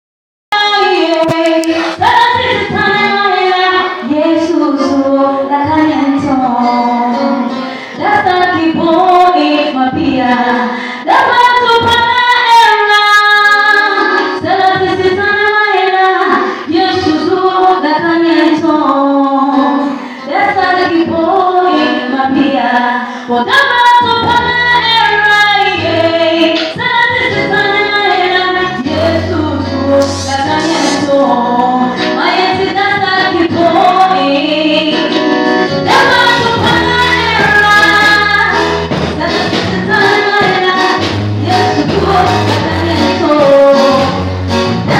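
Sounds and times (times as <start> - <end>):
woman singing through pa: 0.5 - 44.9.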